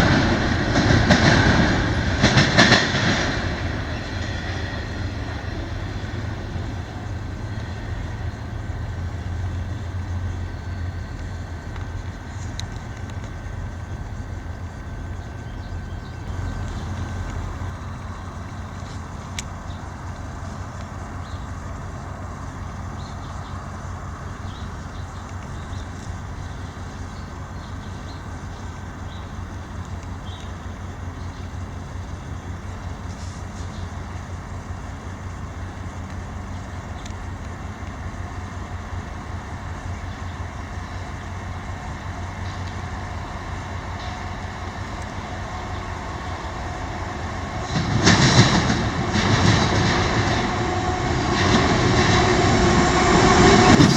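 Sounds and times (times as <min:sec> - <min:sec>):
diesel locomotive engine rumble: 0:00.0 - 0:53.9
rail noise: 0:00.0 - 0:53.9.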